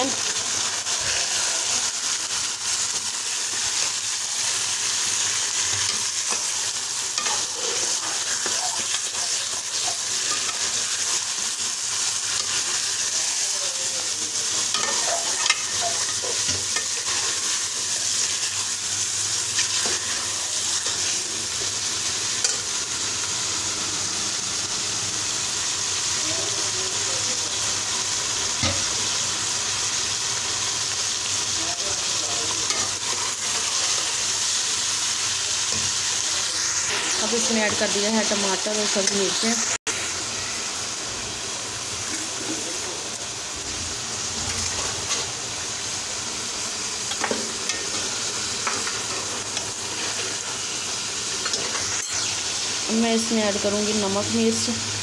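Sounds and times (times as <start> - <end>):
chicken sizzling in a pot: 0.0 - 55.0.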